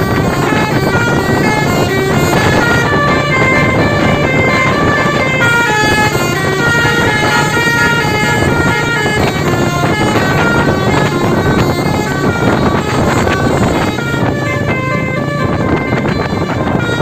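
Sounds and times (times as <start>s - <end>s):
loud vehicle noise: 0.0s - 17.0s
musical air horn melody: 0.0s - 17.0s.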